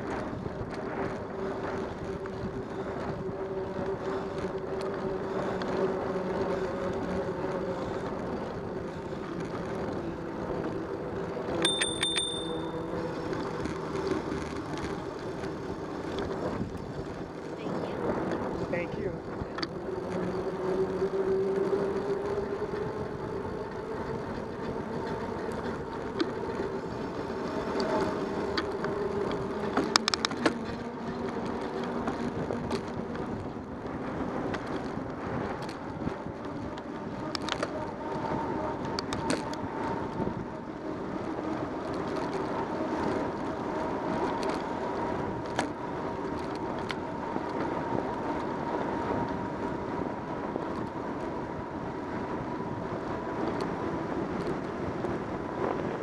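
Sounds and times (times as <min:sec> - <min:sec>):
bicycle tyres rolling on trail: 0:00.0 - 0:56.0.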